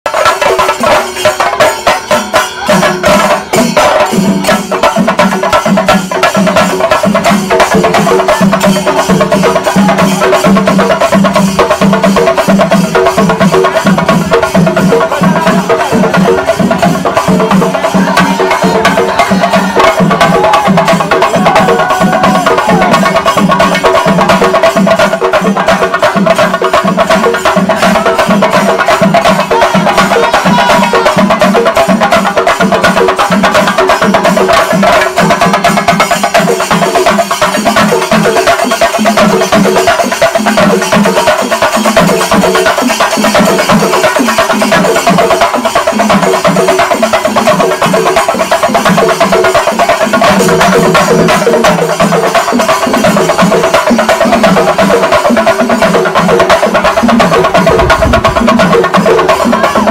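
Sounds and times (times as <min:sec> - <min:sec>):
steady drum beat: 0:00.1 - 0:59.9.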